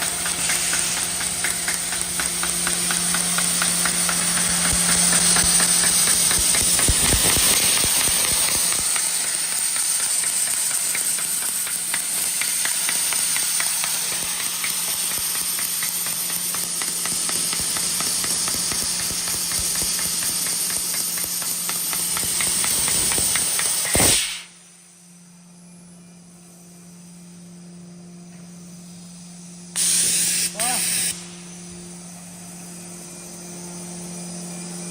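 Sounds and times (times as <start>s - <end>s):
machine low hum: 0.0s - 23.7s, 24.5s - 34.9s
laser cutter gas hiss: 0.0s - 25.0s, 28.4s - 34.1s
high whine: 0.0s - 34.9s.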